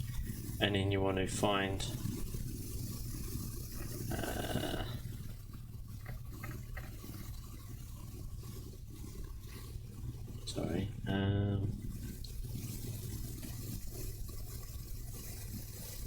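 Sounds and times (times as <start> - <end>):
low electrical hum and hiss: 0.0 - 16.0.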